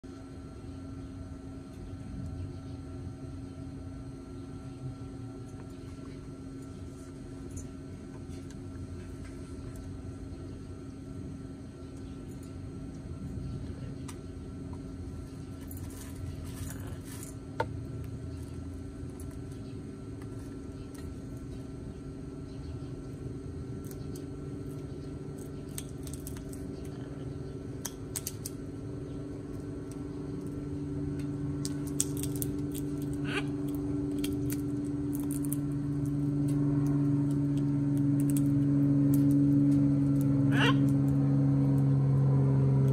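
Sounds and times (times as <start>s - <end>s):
low engine-like hum: 0.0s - 42.9s.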